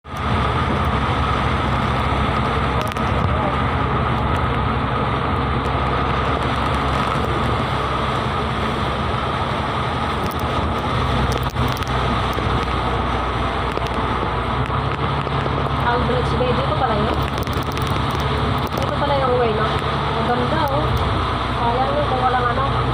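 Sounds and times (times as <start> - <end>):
low rumble: 0.0 - 22.9
rain falling: 0.1 - 22.9.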